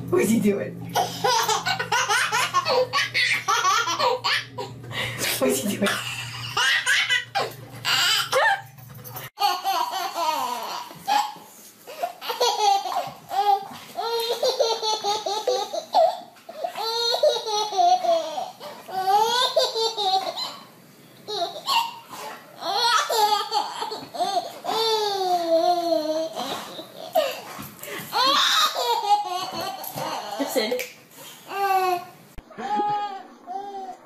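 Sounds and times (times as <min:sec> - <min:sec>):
babies laughing: 0:01.0 - 0:04.8, 0:05.8 - 0:30.6.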